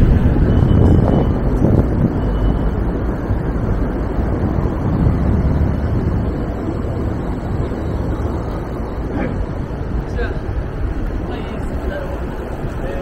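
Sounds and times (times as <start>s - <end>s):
city street traffic: 0.0s - 13.0s
wind rumble on microphone: 0.0s - 13.0s.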